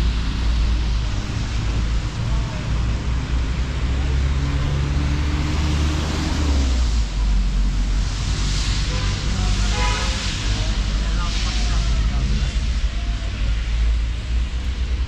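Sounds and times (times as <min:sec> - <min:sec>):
tyres hissing on wet road: 0:00.0 - 0:15.0
vehicle engine hum: 0:00.0 - 0:15.0.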